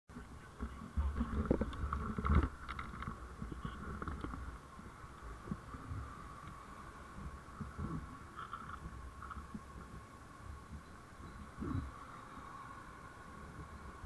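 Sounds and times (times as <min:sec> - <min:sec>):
vehicle road and wind noise: 0:00.1 - 0:14.0.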